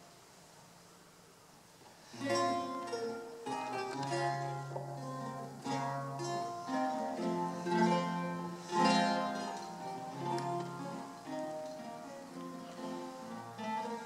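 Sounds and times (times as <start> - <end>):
lute played fingerstyle: 1.7 - 14.0.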